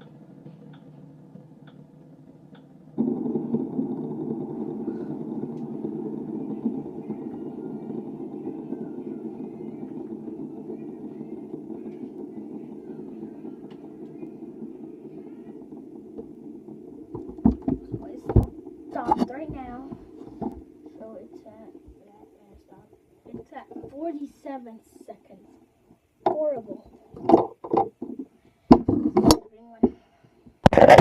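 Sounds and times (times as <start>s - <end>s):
fidget spinner whirring: 0.0s - 29.8s.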